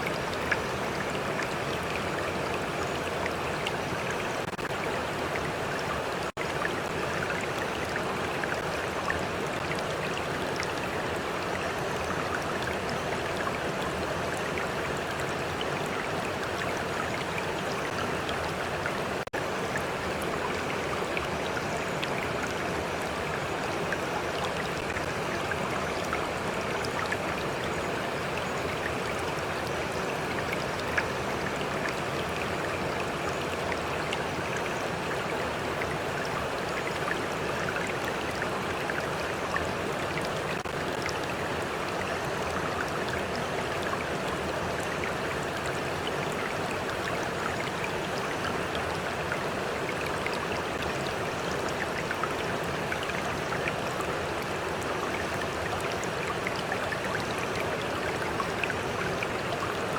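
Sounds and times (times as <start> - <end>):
stream rushing and lapping: 0.0 - 59.9.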